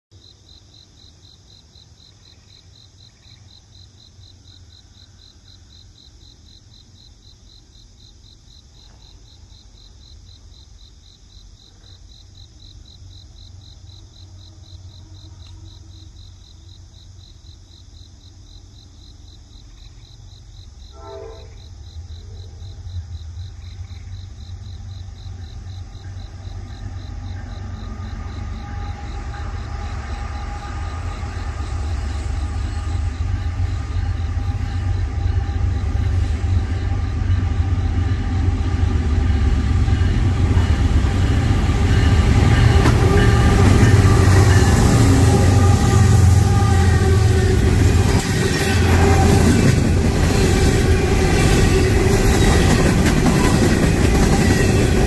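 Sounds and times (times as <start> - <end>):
insects chirping: 0.1 - 55.0
diesel freight train rumble: 3.7 - 55.0.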